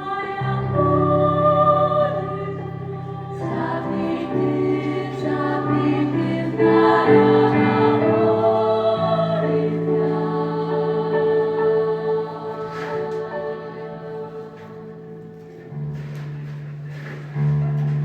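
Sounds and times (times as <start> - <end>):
choir singing in parts: 0.0 - 15.4
piano accompaniment: 0.0 - 18.0.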